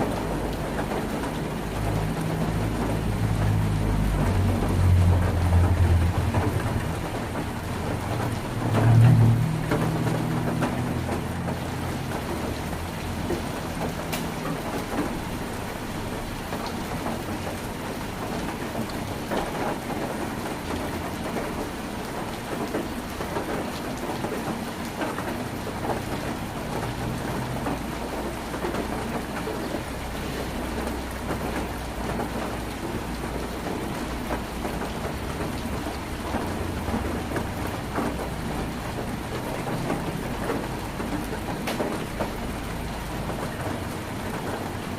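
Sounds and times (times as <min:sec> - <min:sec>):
rain on a tin roof: 0:00.0 - 0:44.9.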